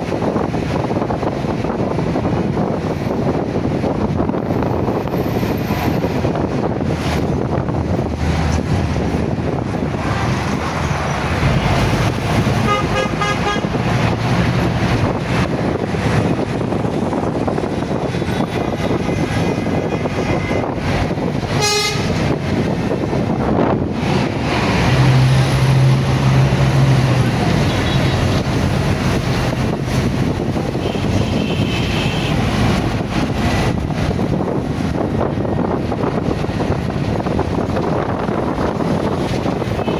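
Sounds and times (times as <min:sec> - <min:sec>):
busy street traffic: 0:00.0 - 0:39.9.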